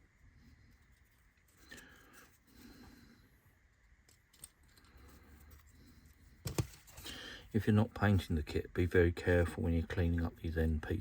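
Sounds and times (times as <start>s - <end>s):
faint scraping and rubbing: 0.0s - 11.0s.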